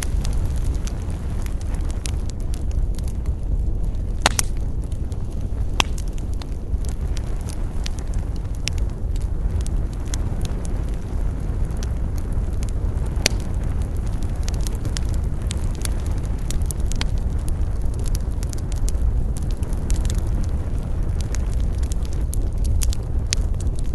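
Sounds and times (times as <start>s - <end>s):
bonfire crackling: 0.0s - 23.9s.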